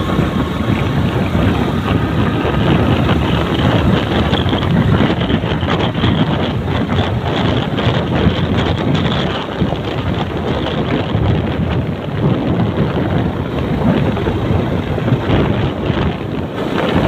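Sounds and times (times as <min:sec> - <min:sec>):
motorbike engine and road noise: 0:00.0 - 0:17.0
wind buffeting microphone: 0:00.0 - 0:17.0.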